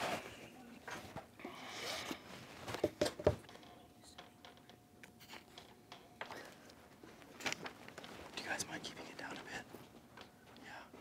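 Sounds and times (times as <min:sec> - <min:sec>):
faint steady hum: 0:00.0 - 0:11.0
rustling and handling noises: 0:00.0 - 0:11.0.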